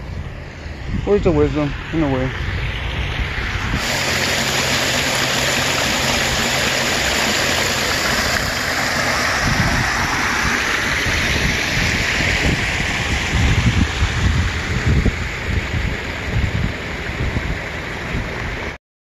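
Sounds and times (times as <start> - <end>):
water rushing over rocks: 3.3 - 18.8.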